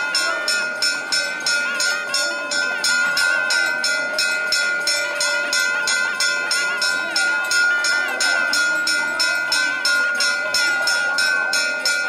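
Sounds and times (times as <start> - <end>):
crowd voices: 0.0 - 12.0
metal bell ringing: 0.0 - 12.0.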